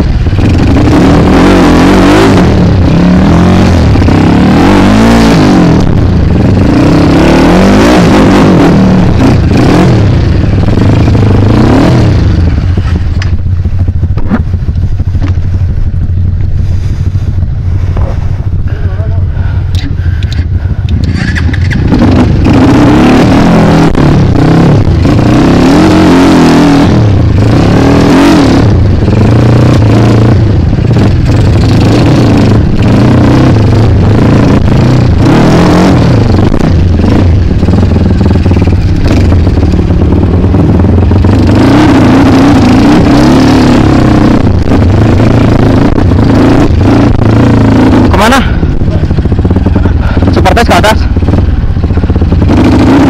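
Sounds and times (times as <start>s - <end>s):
dirt bike engine revving: 0.0s - 14.6s, 20.6s - 53.0s.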